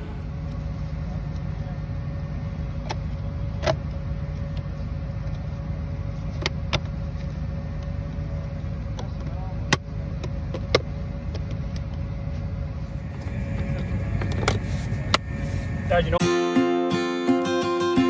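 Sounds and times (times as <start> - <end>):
farm machinery engine humming: 0.0 - 18.0.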